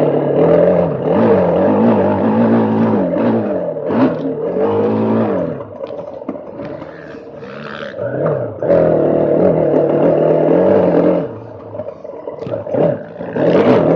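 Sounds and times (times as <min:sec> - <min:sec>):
dirt bike engine revving: 0:00.0 - 0:13.9.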